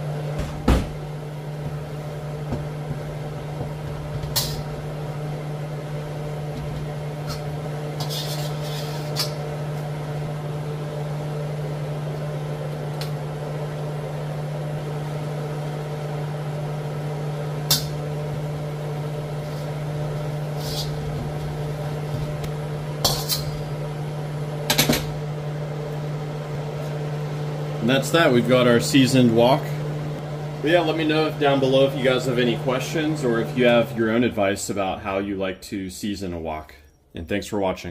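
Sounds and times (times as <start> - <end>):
exhaust fan humming: 0.0 - 37.9.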